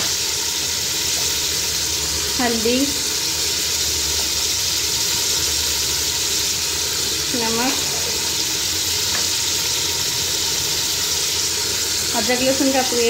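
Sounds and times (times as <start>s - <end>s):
beef and onions sizzling in oil: 0.0s - 13.0s.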